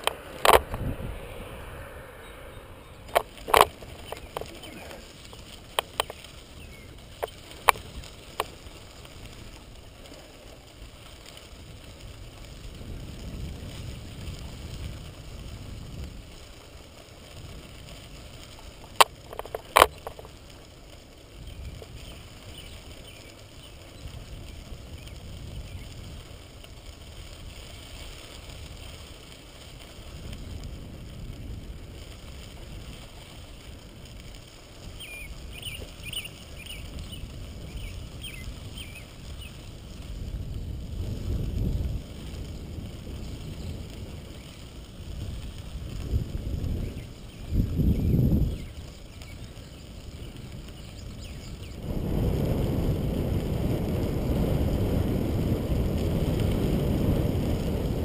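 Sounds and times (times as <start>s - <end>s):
bicycle tyres on gravel: 0.0s - 58.0s.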